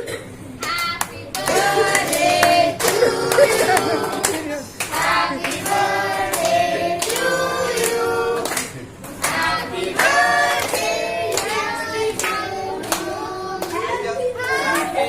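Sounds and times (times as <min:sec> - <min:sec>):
group of people singing: 0:00.6 - 0:15.0.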